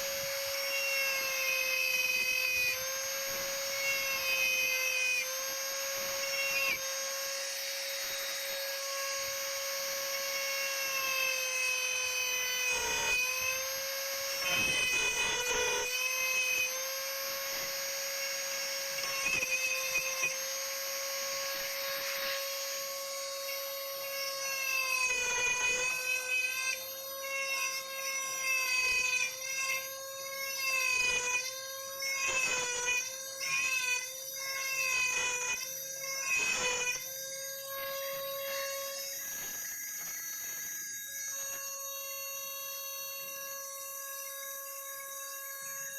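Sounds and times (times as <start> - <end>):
rotary tool whining cutting wood: 0.0 - 45.9.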